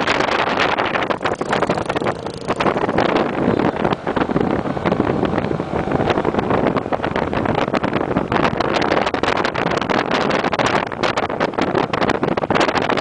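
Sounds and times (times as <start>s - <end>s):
vehicle running: 0.0s - 13.0s
wind buffeting on microphone: 0.0s - 13.0s.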